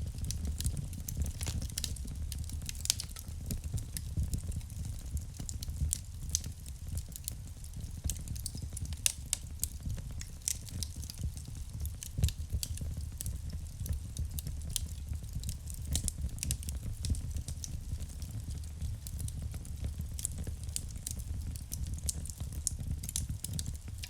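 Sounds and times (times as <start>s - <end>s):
low rumble of flames: 0.0s - 24.0s
logs crackling and snapping: 0.2s - 4.8s, 8.1s - 19.3s, 20.2s - 24.0s.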